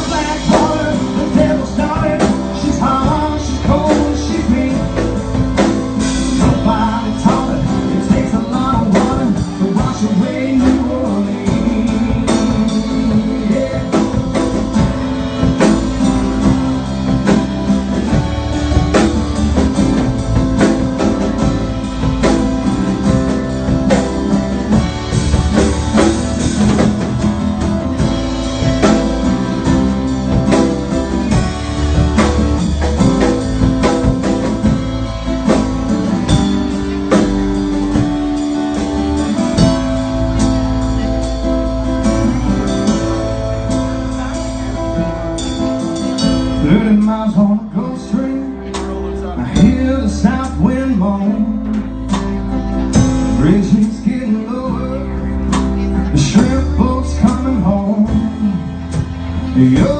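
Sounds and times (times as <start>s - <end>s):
drums keeping a steady beat: 0.0s - 59.9s
guitars playing: 0.0s - 59.9s.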